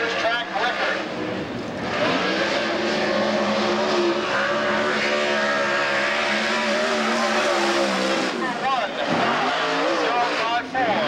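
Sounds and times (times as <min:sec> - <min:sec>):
race car engine at speed: 0:00.0 - 0:11.0.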